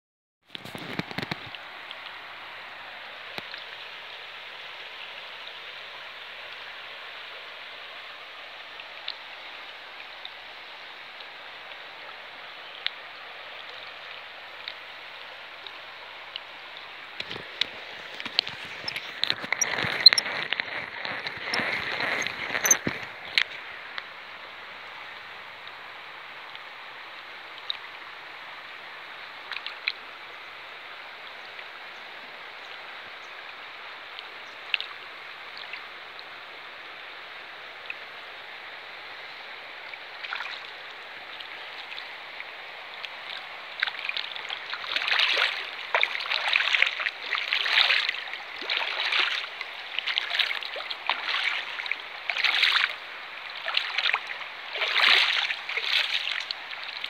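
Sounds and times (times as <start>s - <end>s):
river water running: 0.5s - 57.0s.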